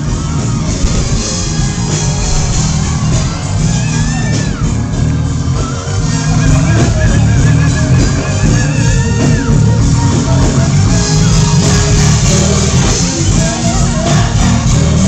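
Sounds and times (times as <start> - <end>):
live band with heavy bass: 0.0 - 15.0.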